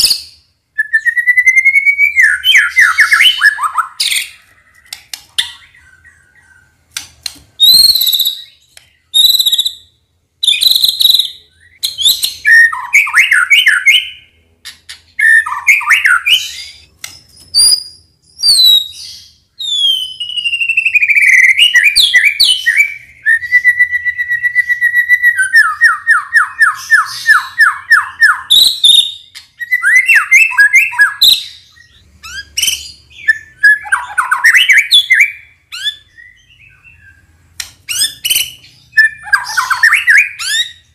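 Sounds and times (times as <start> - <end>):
songbird singing varied whistles: 0.0 - 4.4, 7.6 - 14.3, 15.2 - 37.2, 37.9 - 40.9.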